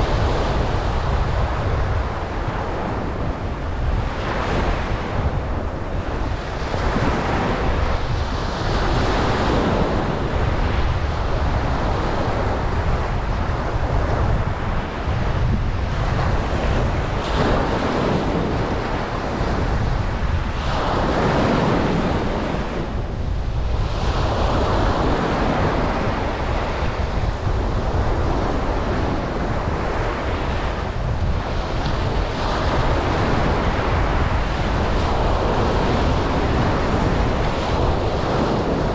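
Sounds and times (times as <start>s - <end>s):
ocean waves breaking on beach: 0.0s - 38.9s
wind on microphone: 0.0s - 38.9s.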